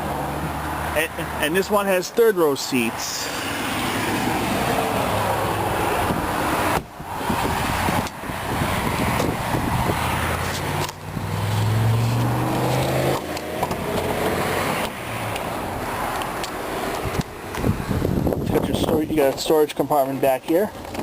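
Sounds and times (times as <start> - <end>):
vehicle passing by: 0.0 - 19.1.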